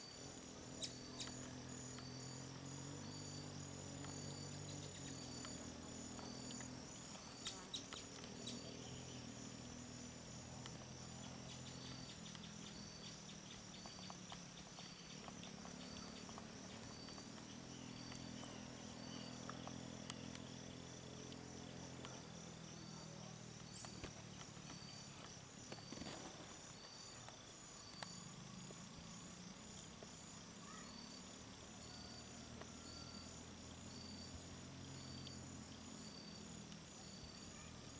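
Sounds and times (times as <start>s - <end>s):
insect chirping: 0.0s - 37.9s
insect trill: 0.0s - 37.9s.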